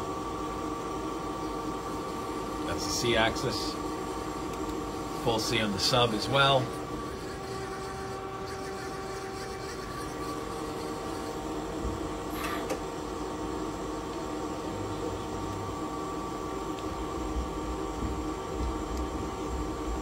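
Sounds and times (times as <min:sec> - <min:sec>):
lathe machine hum: 0:00.0 - 0:20.0
steady whining tones: 0:00.0 - 0:20.0.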